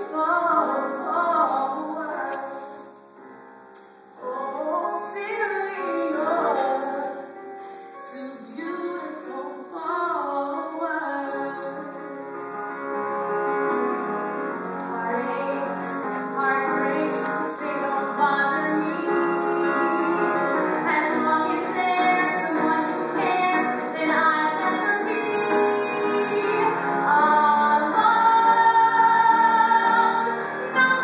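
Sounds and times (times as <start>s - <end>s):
woman singing: 0.0s - 2.8s, 4.2s - 7.4s, 8.0s - 12.0s, 14.8s - 31.0s
music: 0.0s - 31.0s.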